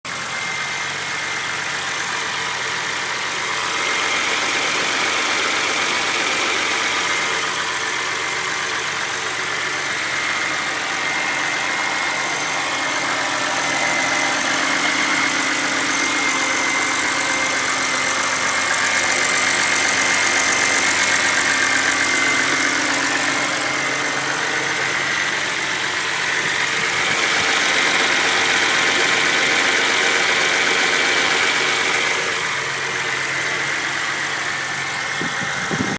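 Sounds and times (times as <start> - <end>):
car engine idling: 0.0 - 35.9
rapid engine lifter ticking: 0.1 - 35.9.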